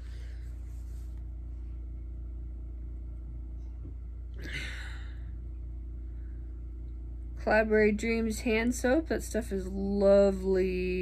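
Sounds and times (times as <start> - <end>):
low hum of room tone: 0.0 - 11.0.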